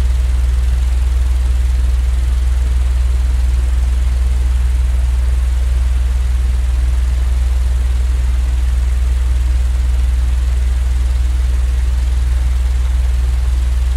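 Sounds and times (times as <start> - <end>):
low machine hum: 0.0 - 13.9.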